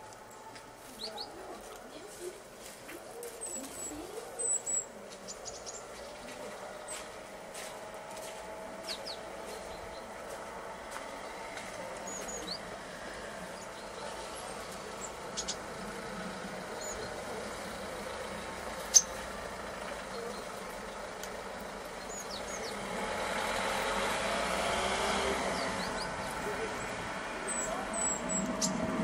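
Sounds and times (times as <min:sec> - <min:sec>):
birds chirping: 0:00.0 - 0:29.0
street background: 0:00.0 - 0:29.0
vehicle passing: 0:00.0 - 0:29.0.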